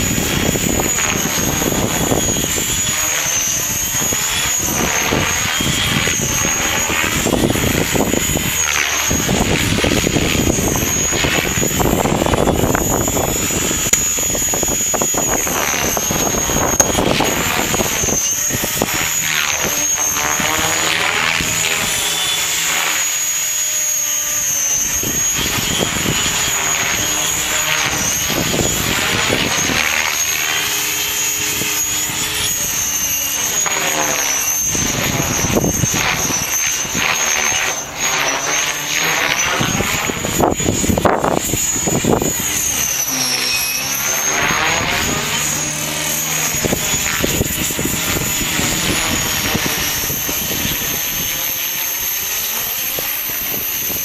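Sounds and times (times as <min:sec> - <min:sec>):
wind buffeting microphone: 0:00.0 - 0:22.0, 0:22.6 - 0:54.0
electric motor whine: 0:00.0 - 0:54.0
rotor blades whooshing: 0:00.0 - 0:54.0.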